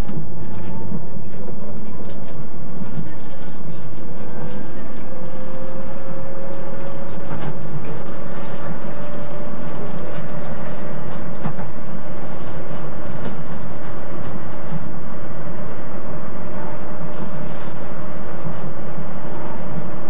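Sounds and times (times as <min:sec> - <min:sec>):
rumble of train wheels on track: 0:00.0 - 0:20.0.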